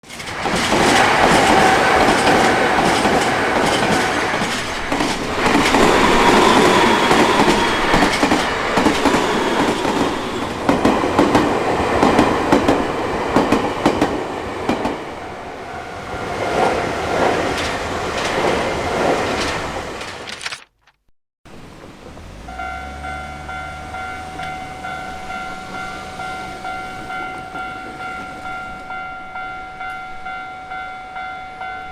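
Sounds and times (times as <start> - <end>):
electric train running noise: 0.0 - 20.3, 21.5 - 31.9
wheels clacking over rail joints: 0.0 - 20.4, 21.5 - 31.9.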